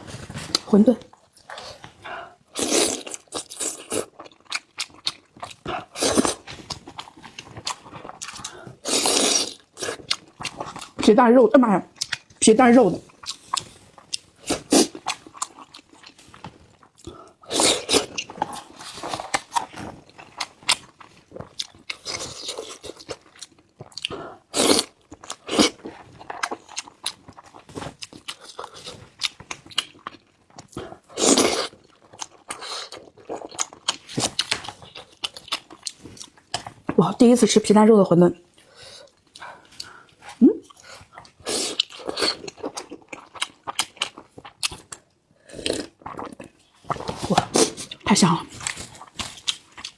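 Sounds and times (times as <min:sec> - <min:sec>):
chewing and wet mouth sounds: 0:00.1 - 0:11.1, 0:11.9 - 0:12.4, 0:13.0 - 0:37.0, 0:38.5 - 0:49.9.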